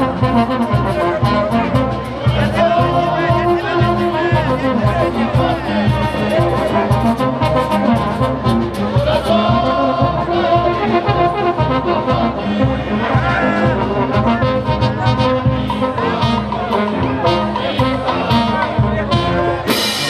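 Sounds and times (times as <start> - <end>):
brass band playing: 0.0 - 20.0
drums and cymbals beat: 0.0 - 20.0
trumpets and trombones: 0.0 - 20.0.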